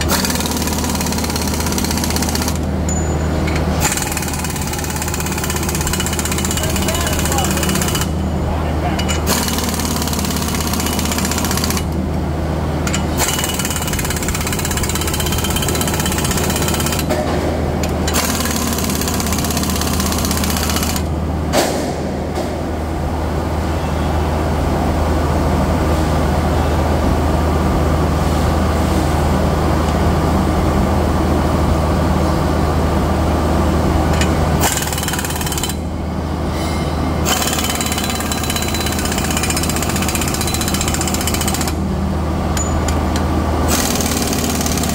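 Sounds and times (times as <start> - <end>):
mill machinery low hum: 0.0 - 44.9.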